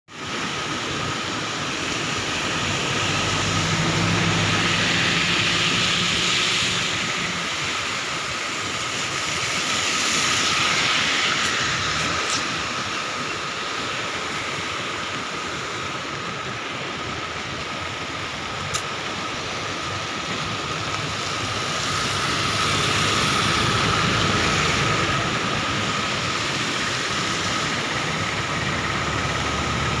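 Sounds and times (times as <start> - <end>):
river water rushing: 0.1 - 30.0.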